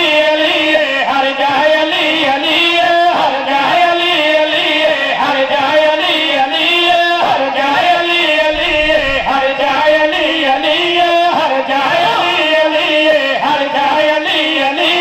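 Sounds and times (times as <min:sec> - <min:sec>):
men singing a devotional chant: 0:00.0 - 0:15.0.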